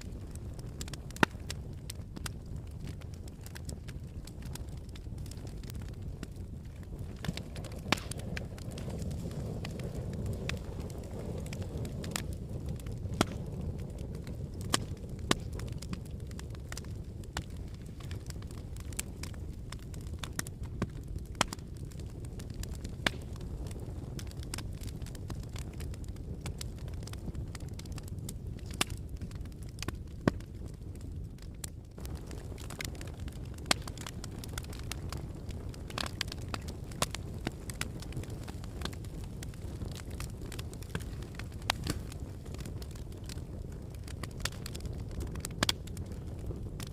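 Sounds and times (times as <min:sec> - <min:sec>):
campfire crackling and popping: 0:00.0 - 0:46.9
fire low rumble: 0:00.0 - 0:46.9.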